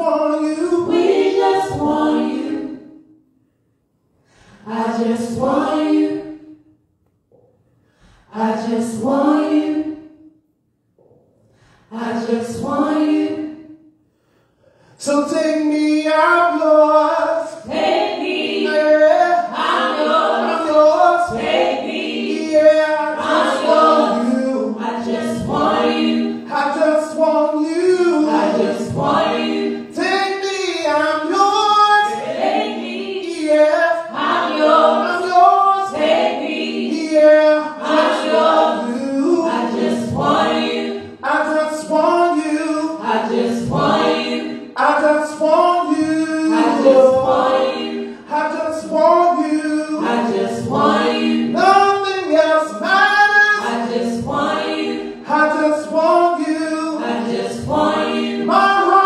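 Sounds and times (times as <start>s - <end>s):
group singing in harmony: 0.0s - 3.2s, 4.3s - 6.7s, 8.0s - 10.4s, 11.6s - 13.9s, 14.9s - 59.0s.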